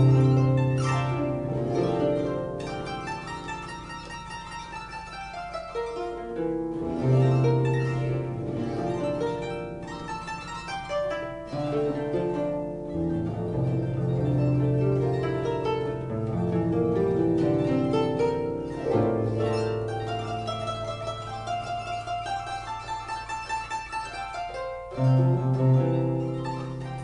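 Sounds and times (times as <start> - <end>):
harp melody: 0.0 - 27.0.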